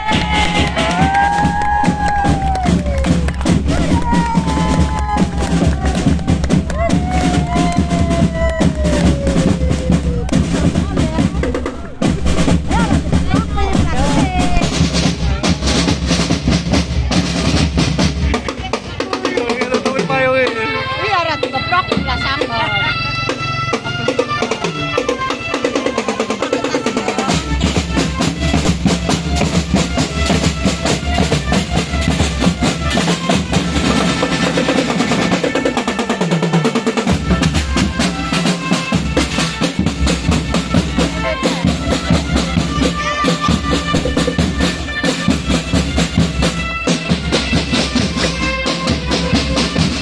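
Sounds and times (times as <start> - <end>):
bass drums beating: 0.0 - 20.4, 27.3 - 35.3, 37.1 - 50.0
snare drums rolling: 0.0 - 20.6, 23.3 - 50.0
marching band playing: 0.0 - 50.0.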